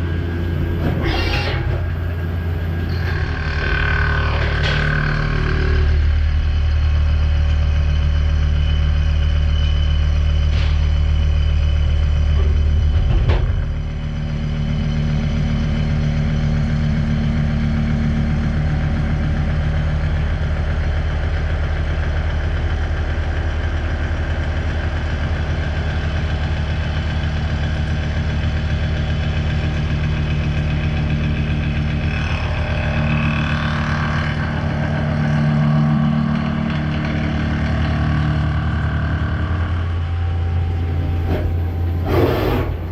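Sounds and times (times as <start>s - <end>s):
machining centre running: 0.0s - 17.5s, 24.5s - 42.9s.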